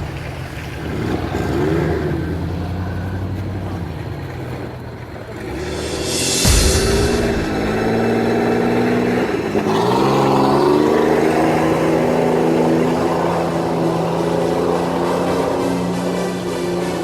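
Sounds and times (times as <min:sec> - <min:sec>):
off-road vehicle engine under load: 0:00.0 - 0:05.7, 0:08.3 - 0:17.0.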